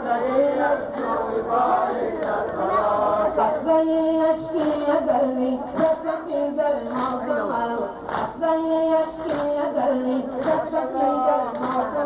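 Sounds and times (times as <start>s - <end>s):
mourning chant singing: 0.0s - 12.0s.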